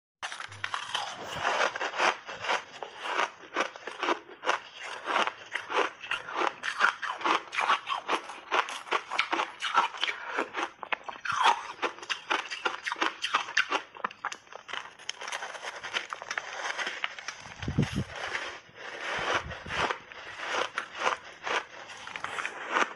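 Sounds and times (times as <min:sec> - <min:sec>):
ice crunching between teeth: 0:00.2 - 0:22.9.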